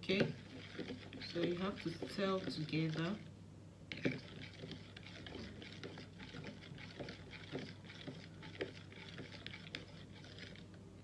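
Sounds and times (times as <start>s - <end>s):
spoon stirring in plastic cup: 0.0s - 3.3s, 3.9s - 10.8s.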